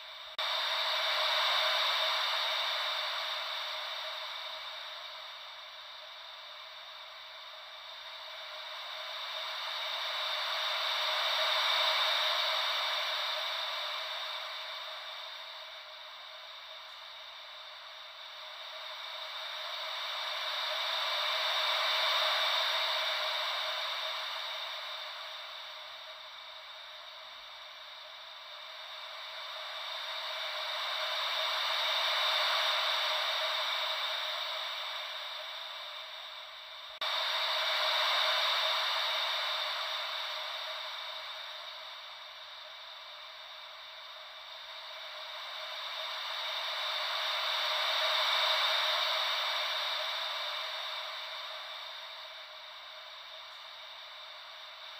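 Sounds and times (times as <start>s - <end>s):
wave-like white noise hiss: 0.0s - 54.9s.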